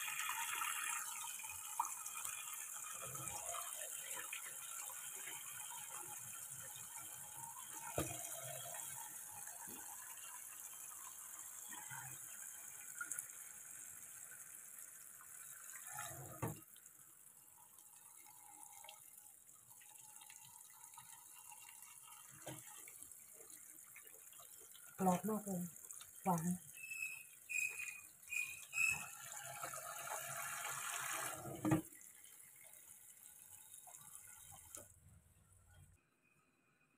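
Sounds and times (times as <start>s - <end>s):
tap water running into sink: 0.0s - 35.0s.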